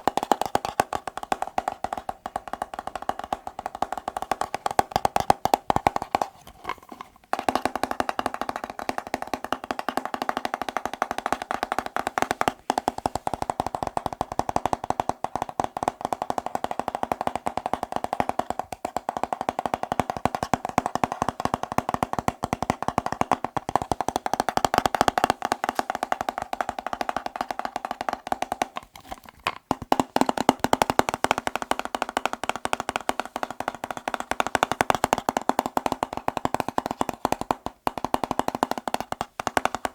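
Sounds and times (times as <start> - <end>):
fingertips tapping on hard objects: 0.0 - 39.9.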